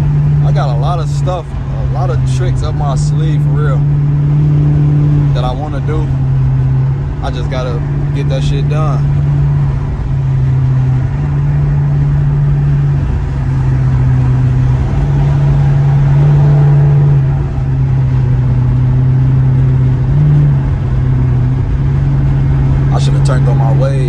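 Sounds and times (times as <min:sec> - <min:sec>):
car exhaust droning: 0:00.0 - 0:24.0.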